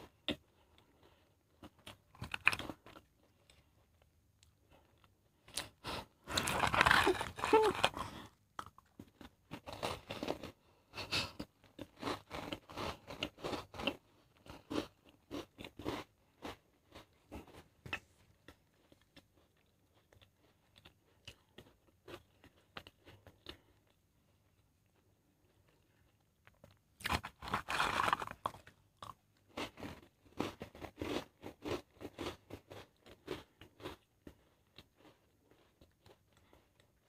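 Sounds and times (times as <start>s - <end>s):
person chewing crunchy biscuits: 0.0s - 37.0s.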